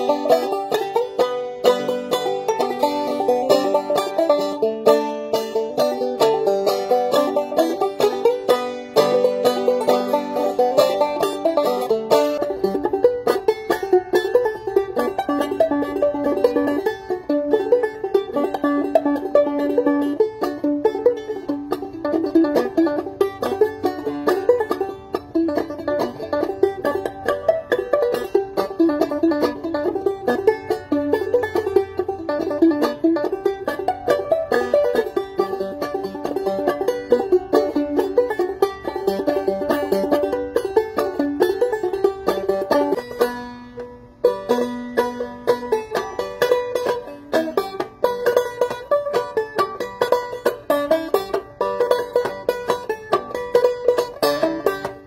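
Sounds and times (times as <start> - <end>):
banjo playing bluesy tune: 0.0 - 55.0.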